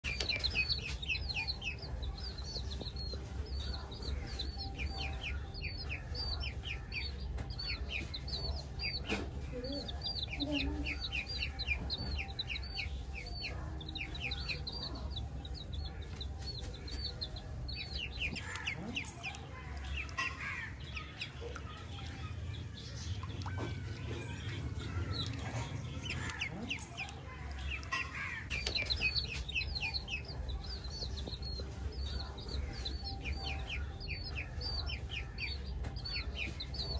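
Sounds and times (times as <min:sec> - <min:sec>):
baby chicks peeping: 0:00.0 - 0:36.9.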